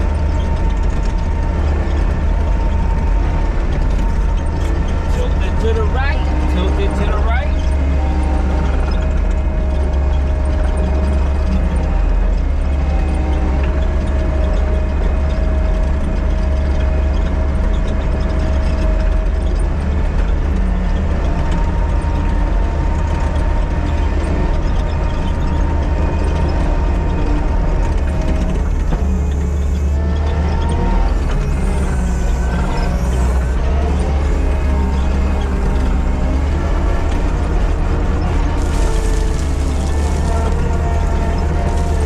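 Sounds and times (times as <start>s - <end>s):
diesel engine rumble: 0.0s - 42.0s.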